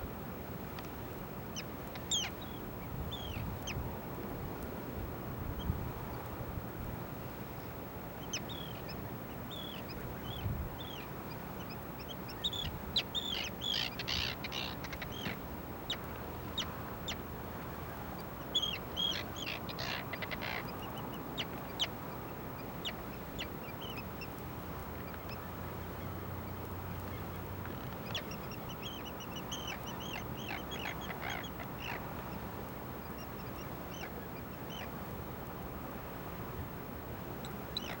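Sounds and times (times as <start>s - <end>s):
birds calling: 1.5s - 3.9s, 7.5s - 35.1s, 37.4s - 38.0s.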